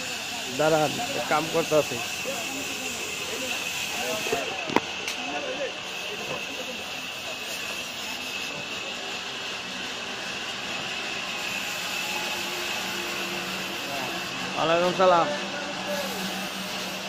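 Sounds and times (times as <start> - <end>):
sawmill saw running: 0.0 - 17.0.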